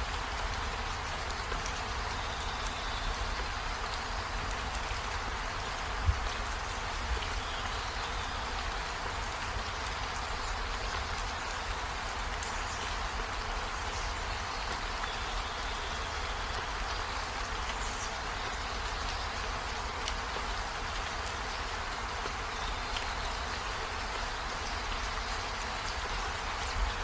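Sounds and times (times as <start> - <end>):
rain hissing: 0.0 - 27.0.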